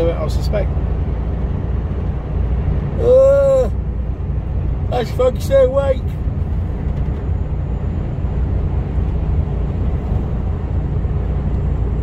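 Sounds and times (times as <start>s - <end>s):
truck engine drone: 0.0s - 12.0s
tyre and road noise: 0.0s - 12.0s.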